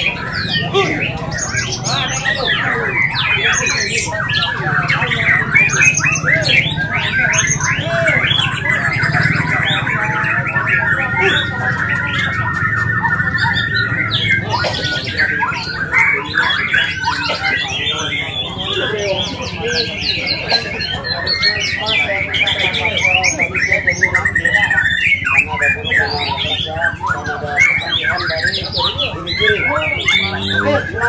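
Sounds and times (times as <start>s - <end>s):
songbirds whistling and chirping: 0.0s - 31.0s.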